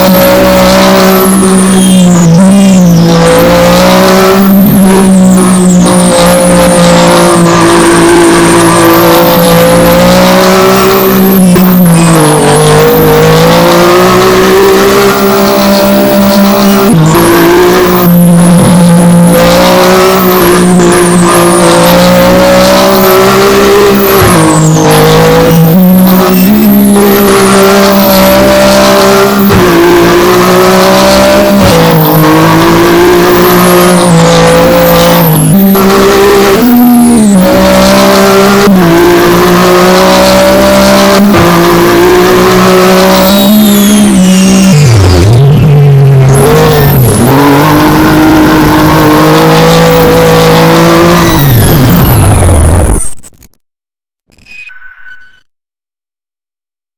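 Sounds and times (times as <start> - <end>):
vehicle engine running hard: 0.0 - 53.0.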